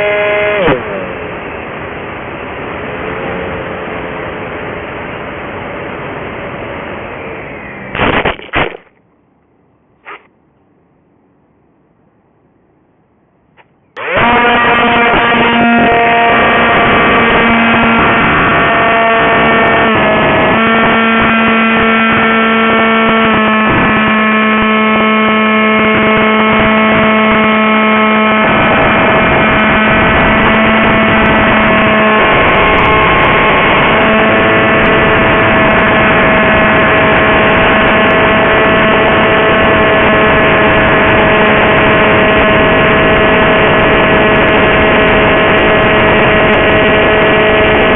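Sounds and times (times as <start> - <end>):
electric motor propeller whine: 0.0 - 7.9, 14.0 - 47.9.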